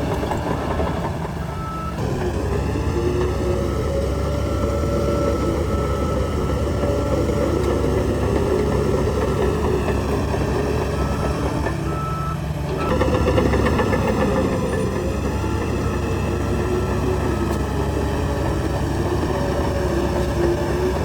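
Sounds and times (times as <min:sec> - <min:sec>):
diesel machinery running: 0:00.0 - 0:21.0.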